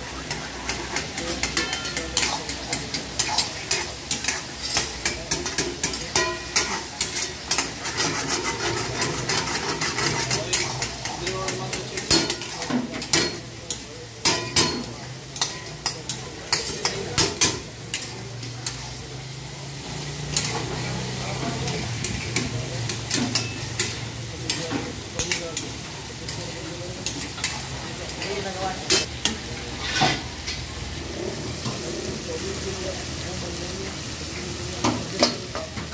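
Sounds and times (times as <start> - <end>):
frying sizzle: 0.0 - 35.9
ladles scraping metal woks: 0.0 - 35.9.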